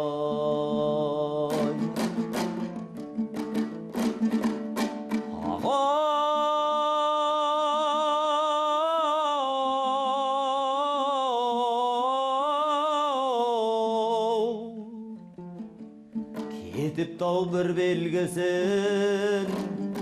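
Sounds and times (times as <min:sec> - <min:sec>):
strummed plucked strings: 0:00.0 - 0:20.0.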